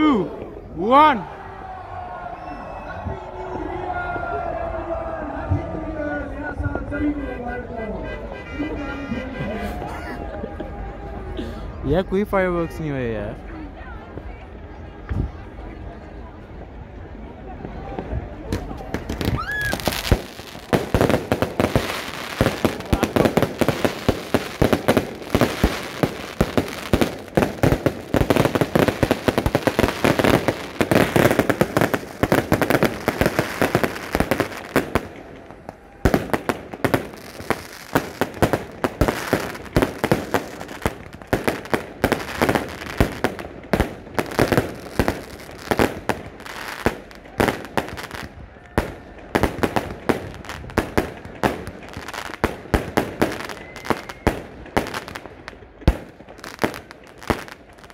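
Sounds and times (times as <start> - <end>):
fireworks bangs and crackling: 9.0 - 57.9.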